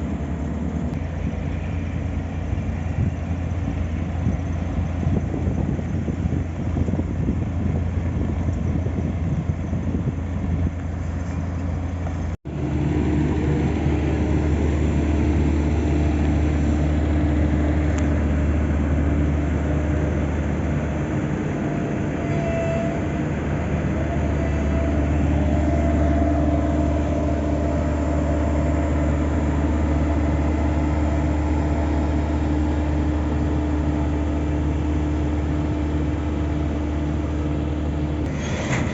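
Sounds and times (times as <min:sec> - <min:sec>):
diesel engines droning: 0:00.0 - 0:38.9.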